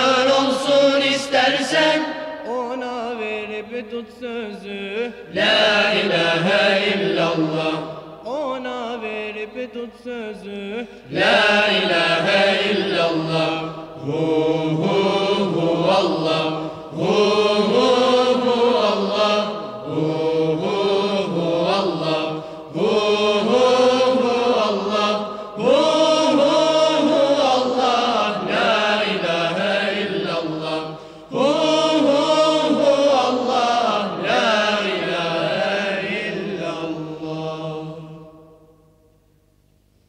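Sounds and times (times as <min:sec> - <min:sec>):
voices chanting devotional refrain: 0:00.0 - 0:38.9.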